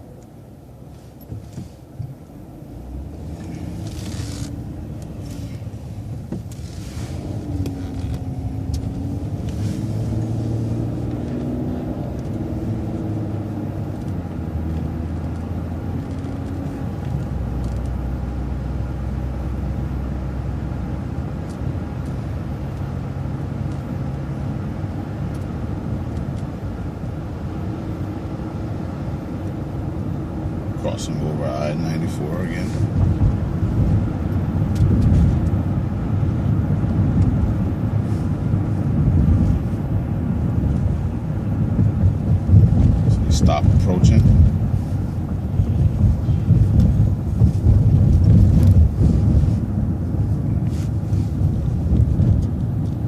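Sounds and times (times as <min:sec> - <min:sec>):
bus engine pulling away: 0:01.0 - 0:53.0.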